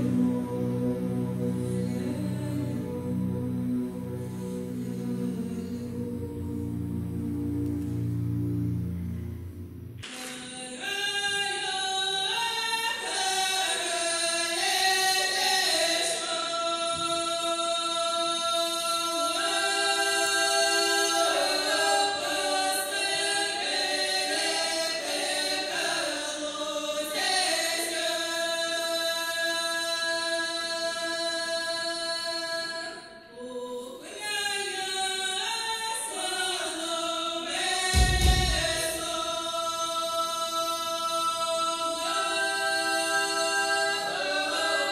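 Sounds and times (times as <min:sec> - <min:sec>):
choir singing held chords: 0:00.0 - 0:44.9.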